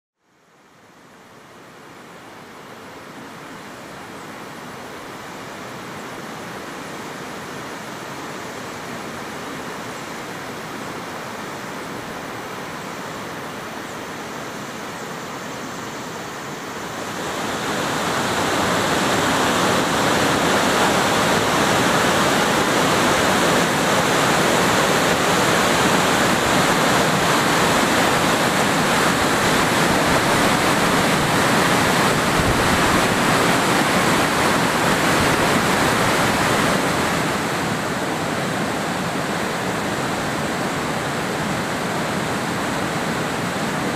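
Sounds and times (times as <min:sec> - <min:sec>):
waterfall roaring: 0:00.7 - 0:43.9.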